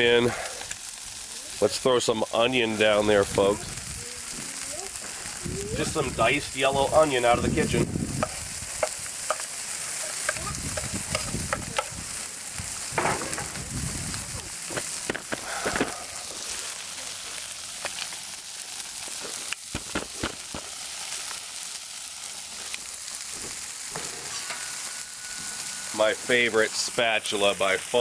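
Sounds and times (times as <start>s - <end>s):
meat and onion sizzling on griddle: 0.0s - 28.0s.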